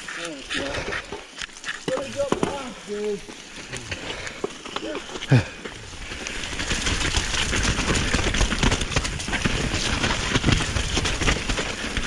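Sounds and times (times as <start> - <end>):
wheels rolling over rough ground: 0.0 - 12.0.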